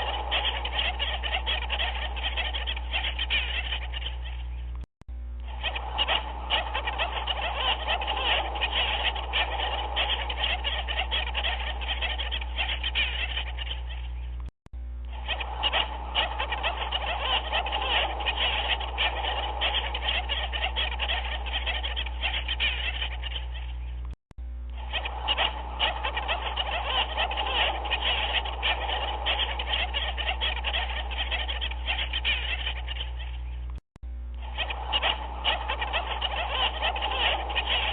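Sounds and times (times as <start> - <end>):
animal calls chattering: 0.0 - 4.7, 5.5 - 14.4, 15.1 - 24.0, 24.8 - 33.7, 34.4 - 37.9
steady low hum: 0.0 - 37.9.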